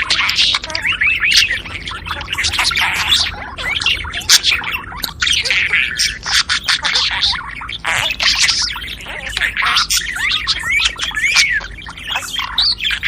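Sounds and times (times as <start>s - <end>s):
budgerigars warbling and chattering: 0.0s - 13.0s.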